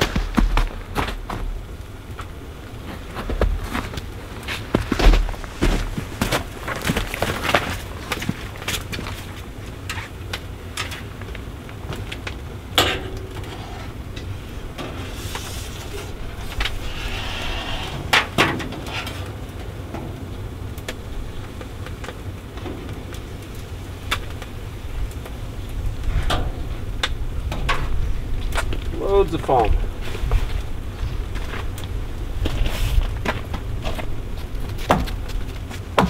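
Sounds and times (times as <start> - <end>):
sap boiling with low rumble: 0.0 - 36.0.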